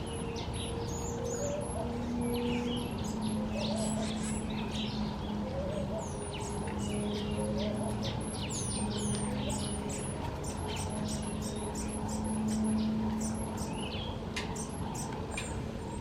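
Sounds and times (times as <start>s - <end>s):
birds calling high whistles: 0.0s - 16.0s
low steady hum: 0.0s - 16.0s.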